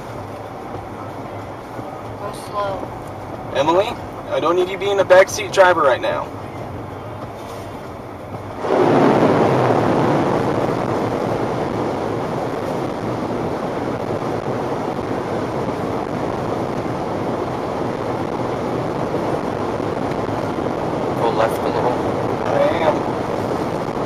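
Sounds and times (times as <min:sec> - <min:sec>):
floodwater rushing against a car: 0:00.0 - 0:24.0.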